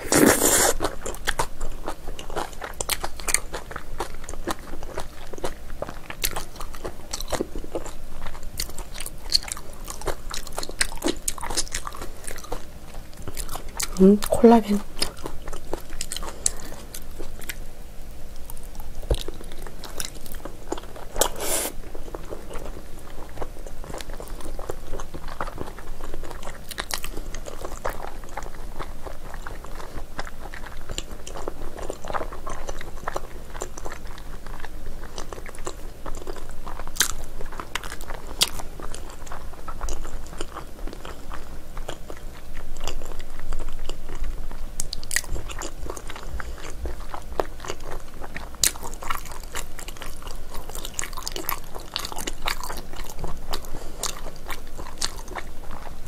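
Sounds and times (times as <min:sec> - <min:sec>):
chewing and biting food: 0:00.0 - 0:17.7, 0:18.3 - 0:56.0.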